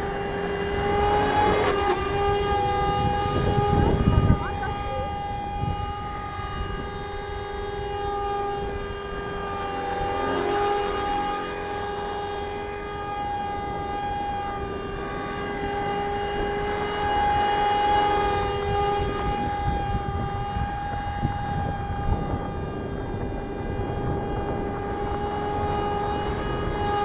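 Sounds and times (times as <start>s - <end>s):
rc helicopter rotor whine: 0.0s - 27.0s.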